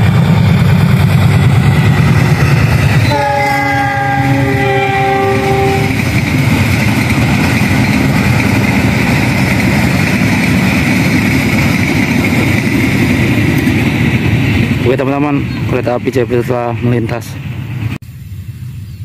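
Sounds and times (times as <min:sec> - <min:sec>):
passenger train rumbling past: 0:00.0 - 0:19.0.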